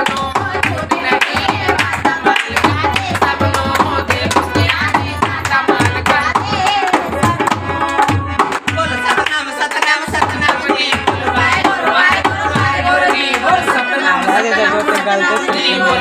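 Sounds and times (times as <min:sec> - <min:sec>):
hand drum beat: 0:00.0 - 0:16.0.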